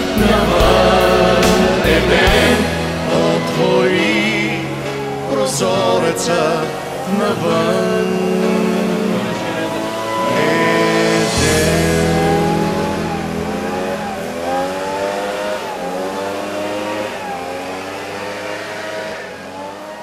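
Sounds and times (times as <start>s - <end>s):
leaf blower engine revving: 0.0s - 20.0s.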